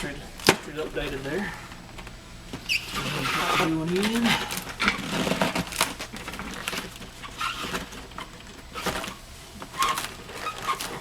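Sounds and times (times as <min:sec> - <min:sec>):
filter frame scraping: 0:00.0 - 0:11.0.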